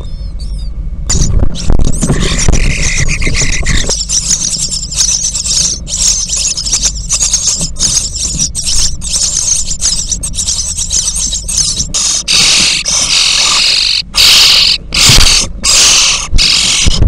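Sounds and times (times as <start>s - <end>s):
low steady hum: 0.0s - 17.0s
nestlings begging chatter: 0.0s - 17.0s.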